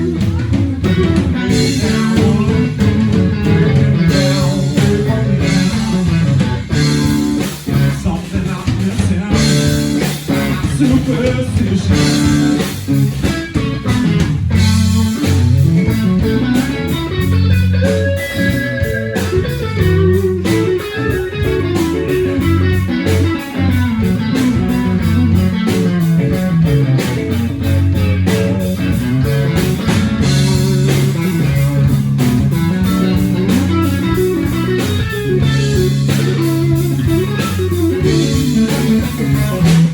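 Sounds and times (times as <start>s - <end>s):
bass guitar: 0.0s - 39.9s
blues-rock band playing: 0.0s - 39.9s
electric guitar: 0.0s - 39.9s.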